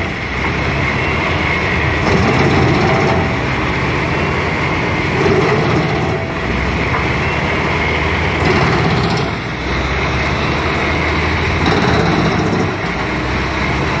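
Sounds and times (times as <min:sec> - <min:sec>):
wood chipper running: 0:00.0 - 0:14.0.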